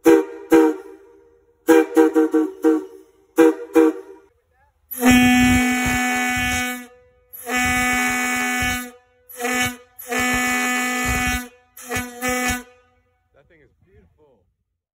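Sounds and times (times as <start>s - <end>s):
steam whistle blasts: 0.0s - 4.3s, 4.9s - 13.0s.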